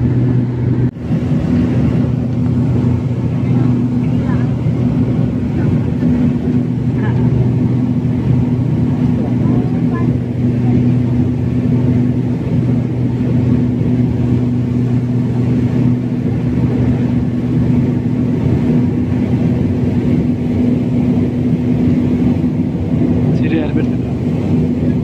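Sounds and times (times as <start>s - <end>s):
turboprop engine drone: 0.0s - 25.0s.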